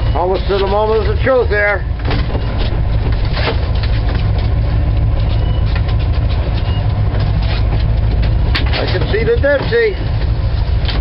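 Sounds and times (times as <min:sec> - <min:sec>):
boat engine rumbling: 0:00.0 - 0:11.0
wind: 0:00.0 - 0:11.0.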